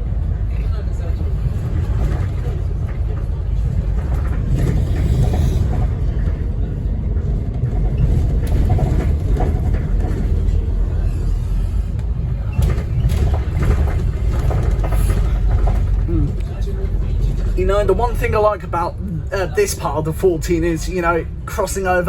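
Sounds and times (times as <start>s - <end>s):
bus diesel engine rumble: 0.0s - 22.0s
road noise: 0.0s - 22.0s.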